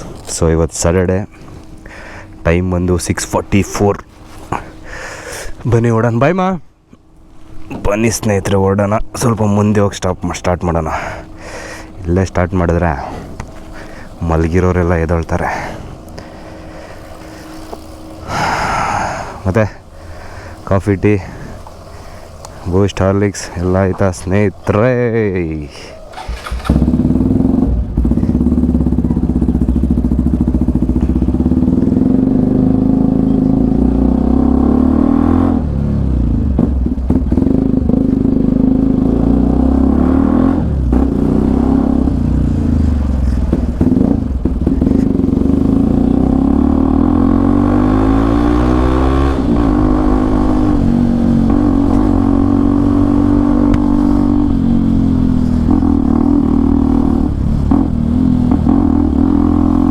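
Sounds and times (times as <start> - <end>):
motorcycle engine running: 7.0 - 59.9.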